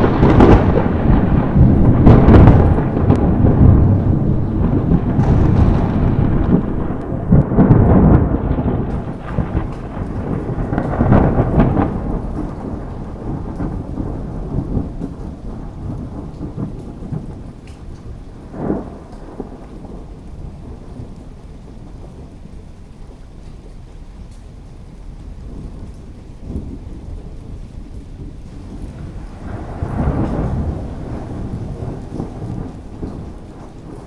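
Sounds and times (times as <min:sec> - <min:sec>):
steady rain: 0:00.0 - 0:34.0
thunder rumbling: 0:00.0 - 0:34.0.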